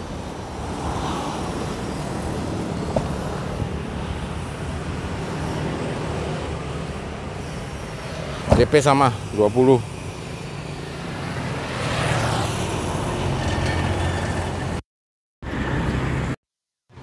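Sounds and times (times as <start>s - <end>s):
road traffic passing: 0.0s - 14.8s, 15.4s - 17.0s.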